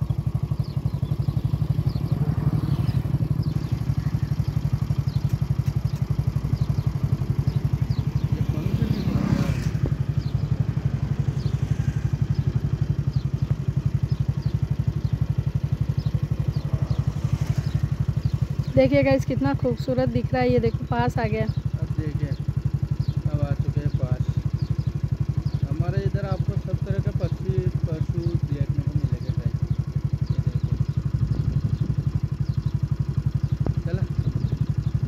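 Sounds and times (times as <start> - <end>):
small engine idling: 0.0 - 35.0.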